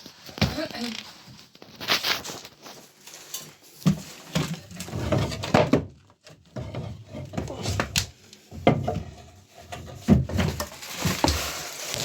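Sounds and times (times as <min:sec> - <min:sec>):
wood scraping: 0:00.5 - 0:12.0.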